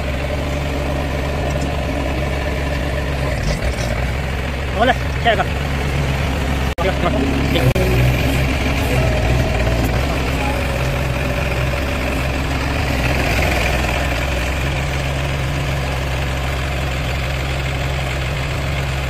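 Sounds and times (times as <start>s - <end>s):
low steady hum: 0.0s - 16.0s
hydraulic hammer pounding: 0.0s - 18.7s
pile driver engine running: 0.0s - 19.0s.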